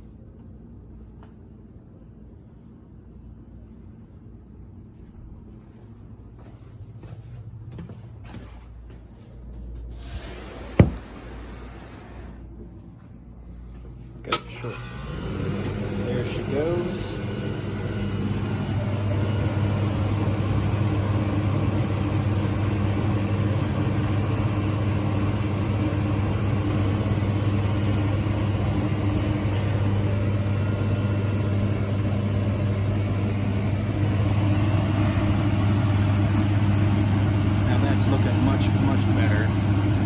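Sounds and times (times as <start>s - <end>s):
compressor humming with low drone: 0.0s - 40.0s.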